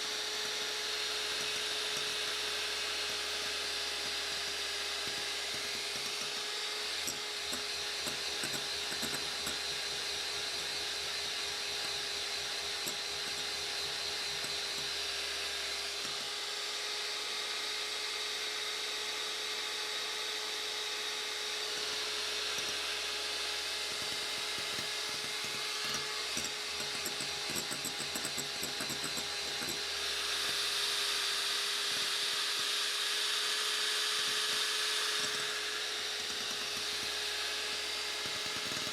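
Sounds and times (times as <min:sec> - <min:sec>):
electric hand mixer whipping: 0:00.0 - 0:38.9.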